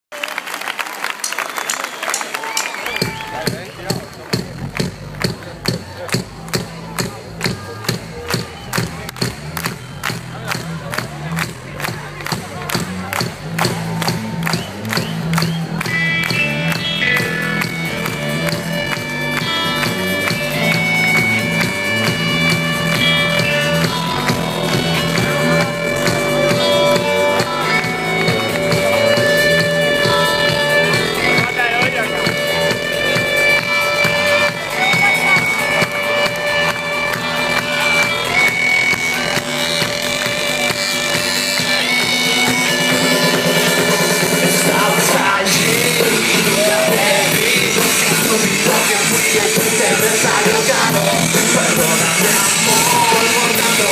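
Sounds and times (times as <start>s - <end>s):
concert crowd: 0.1s - 53.9s
drum beat: 2.9s - 53.9s
live band music: 2.9s - 53.9s.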